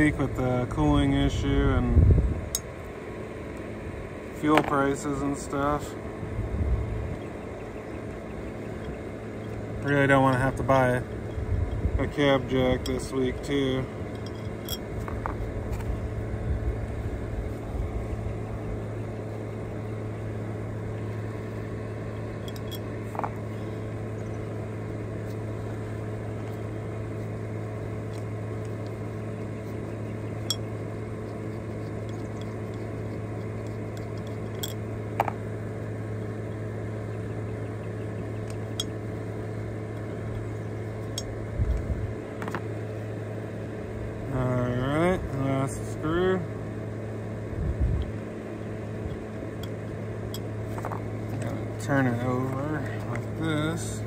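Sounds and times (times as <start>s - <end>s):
battery fan humming: 0.0s - 54.0s.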